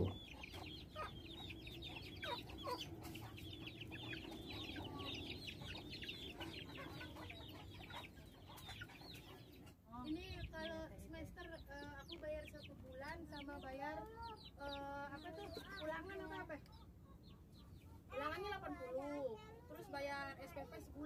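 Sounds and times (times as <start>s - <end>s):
chickens clucking and chirping: 0.0s - 21.0s.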